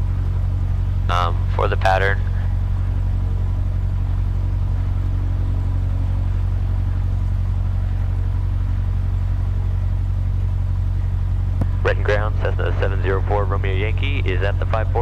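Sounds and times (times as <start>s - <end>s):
aircraft engine idling: 0.0s - 15.0s.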